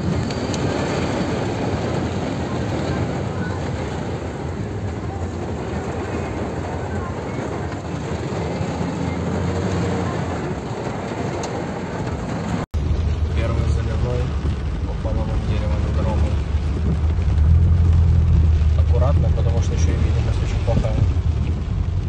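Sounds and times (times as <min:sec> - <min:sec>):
car driving through floodwater: 0:00.0 - 0:22.0.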